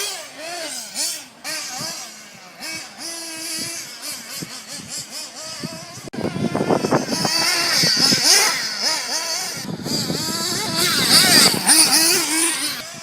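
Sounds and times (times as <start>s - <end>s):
model car engine revving: 0.0s - 13.0s.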